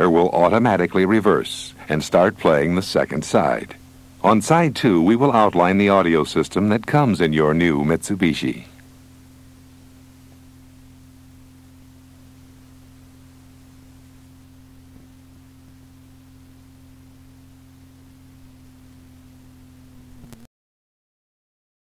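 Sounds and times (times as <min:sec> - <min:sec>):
low hum of held notes: 0:00.0 - 0:20.4
faint tape hiss: 0:00.0 - 0:20.5.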